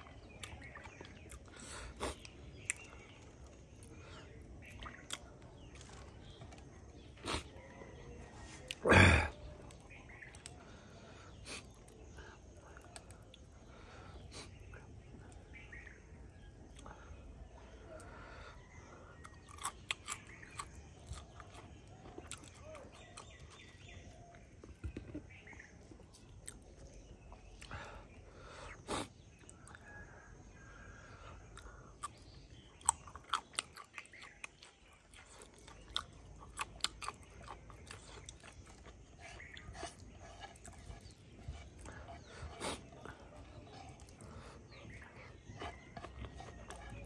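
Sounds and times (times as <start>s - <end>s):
person chewing food: 0.0s - 16.0s, 16.6s - 47.0s
faint birds chirping: 0.0s - 47.0s.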